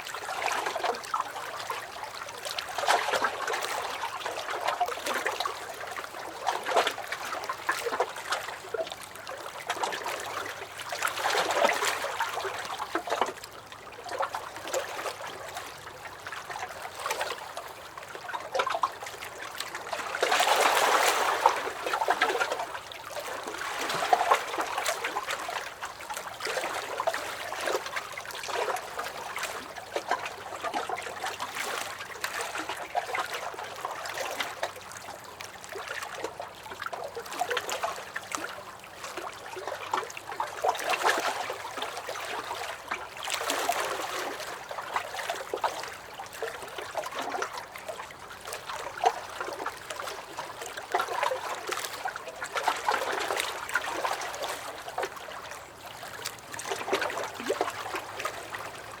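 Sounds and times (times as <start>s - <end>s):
lake waves lapping against a dock: 0.0s - 59.0s.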